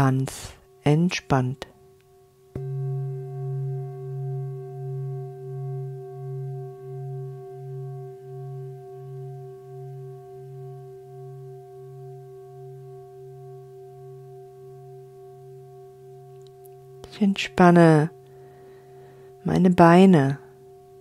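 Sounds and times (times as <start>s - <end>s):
singing bowl ringing: 0.1s - 21.0s.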